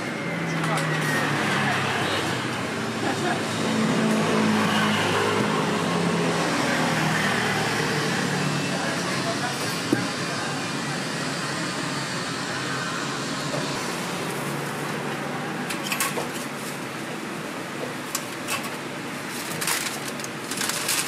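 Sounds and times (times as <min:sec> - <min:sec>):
street stall background noise: 0:00.0 - 0:21.0.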